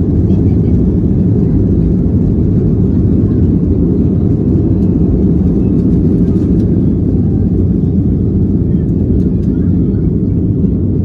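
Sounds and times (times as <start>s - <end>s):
jet engines at takeoff thrust: 0.0s - 11.0s
wheels rumbling on runway: 0.0s - 11.0s.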